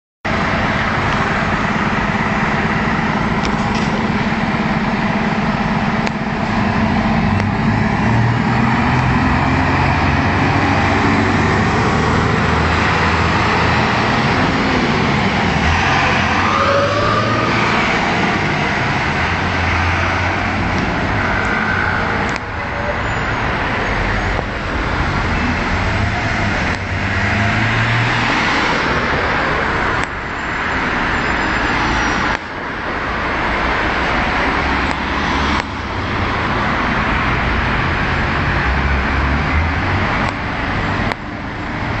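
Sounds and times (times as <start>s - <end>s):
road traffic rumble and hiss: 0.3s - 42.0s.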